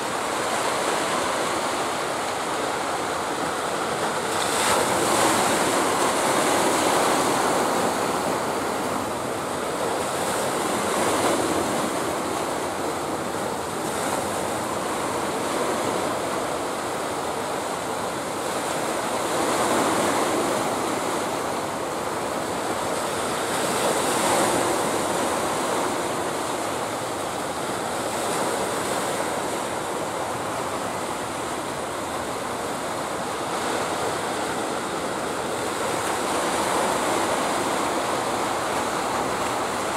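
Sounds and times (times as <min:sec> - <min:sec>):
sea surf breaking on a beach: 0:00.0 - 0:39.9.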